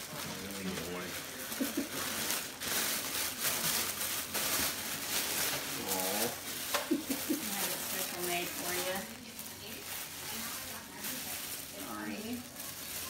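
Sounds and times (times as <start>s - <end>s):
plastic rustling and crinkling: 0.0s - 13.0s.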